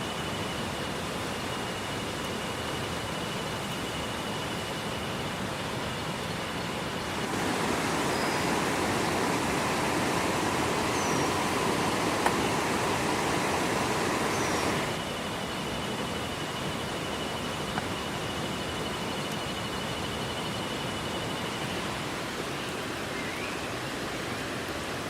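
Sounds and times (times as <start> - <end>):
faint high whine: 0.0 - 25.0
heavy rain hissing: 0.0 - 25.0.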